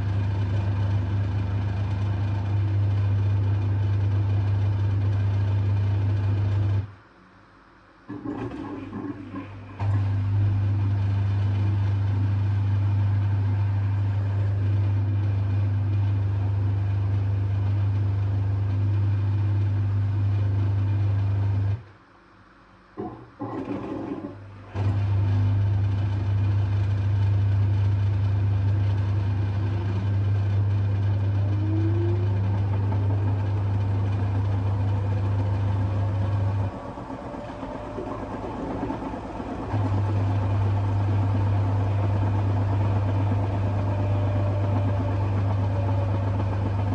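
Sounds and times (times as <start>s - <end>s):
drain pump humming: 0.0s - 7.0s, 8.0s - 21.9s, 22.9s - 46.9s.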